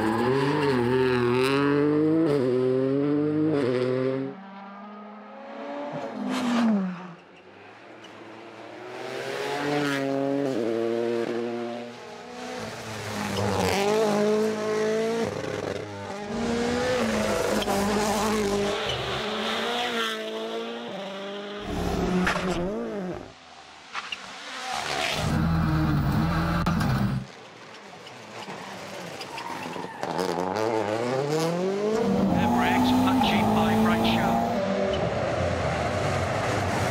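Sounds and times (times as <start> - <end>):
rally car engines revving: 0.0 - 23.3, 24.0 - 36.9.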